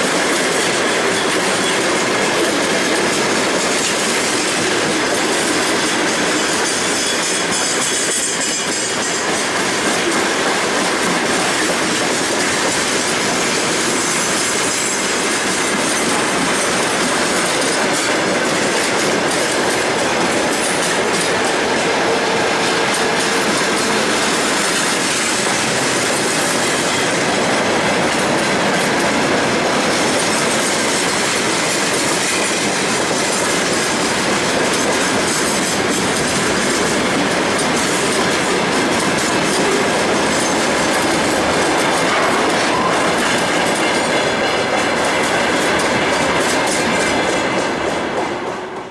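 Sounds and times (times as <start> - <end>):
train wheels clattering on rails: 0.0 - 48.9.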